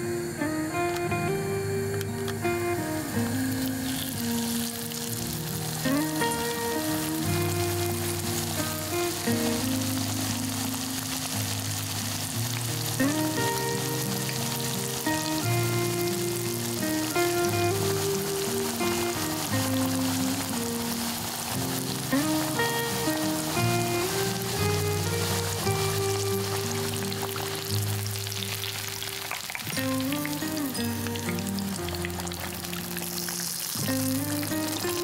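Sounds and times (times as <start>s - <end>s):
potatoes sizzling in hot oil: 0.0s - 35.0s
soft melodic background music: 0.0s - 35.0s.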